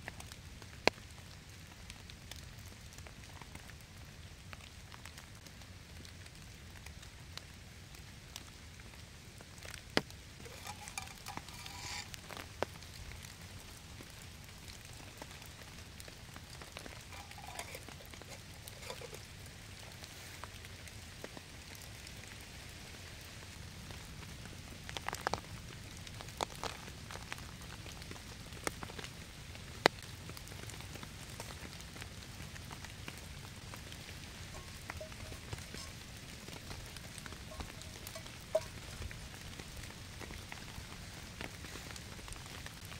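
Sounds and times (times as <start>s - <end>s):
light rain on foliage: 0.0s - 42.9s.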